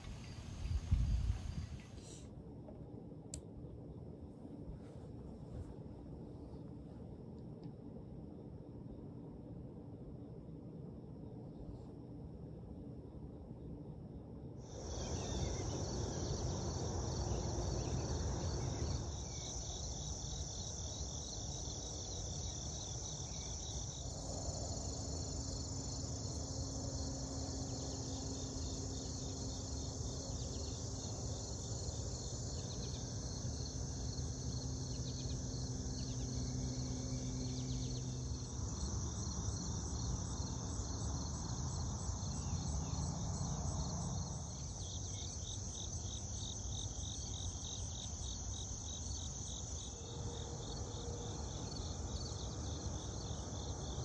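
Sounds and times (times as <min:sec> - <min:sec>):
crickets and insects chirping: 0:00.0 - 0:54.0.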